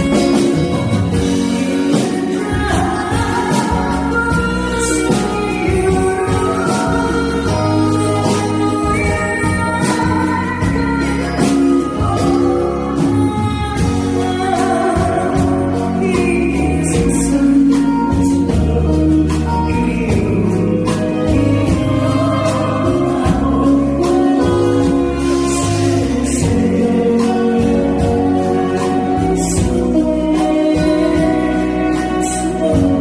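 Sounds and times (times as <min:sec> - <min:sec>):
band accompaniment: 0:00.0 - 0:33.0
steady drum beat: 0:00.0 - 0:33.0
woman singing: 0:00.0 - 0:33.0.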